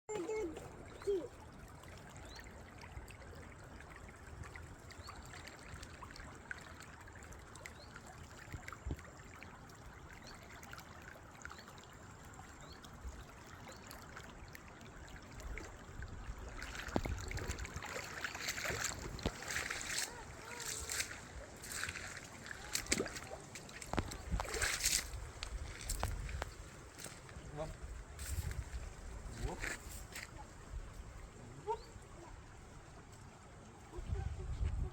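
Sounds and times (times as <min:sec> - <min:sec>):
stream trickling: 0:00.1 - 0:34.9.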